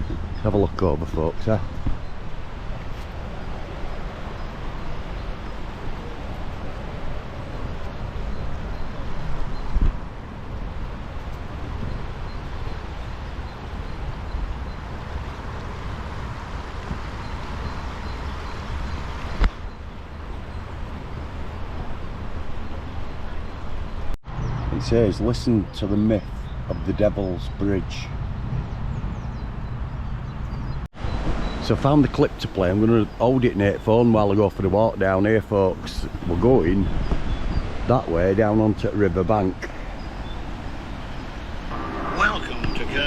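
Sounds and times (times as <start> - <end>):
river water rushing: 0.0 - 23.7, 31.0 - 43.0
wind rumbling on microphone: 0.0 - 43.0.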